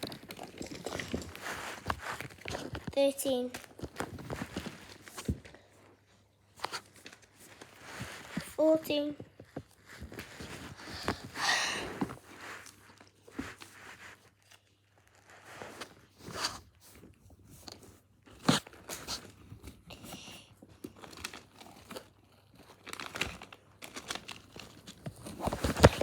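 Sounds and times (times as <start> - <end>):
plastic squishy toys being handled: 0.0 - 26.0.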